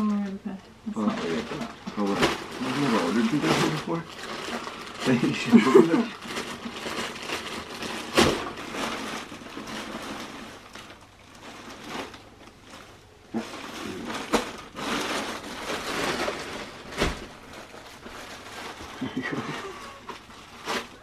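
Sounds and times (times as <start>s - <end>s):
plastic bag rustling and crinkling: 0.9s - 21.0s.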